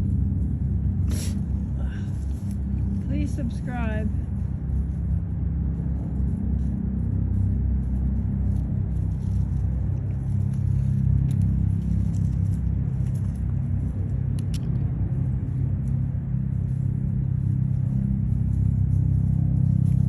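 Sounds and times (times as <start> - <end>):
engine running low rumble: 0.0 - 20.0.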